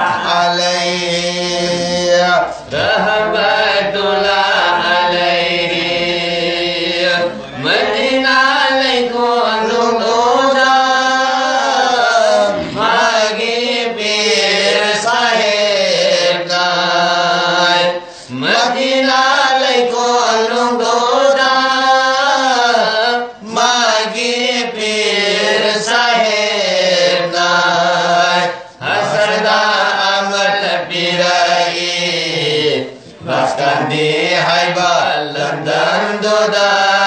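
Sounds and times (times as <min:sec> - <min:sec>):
men chanting unaccompanied: 0:00.0 - 0:37.0.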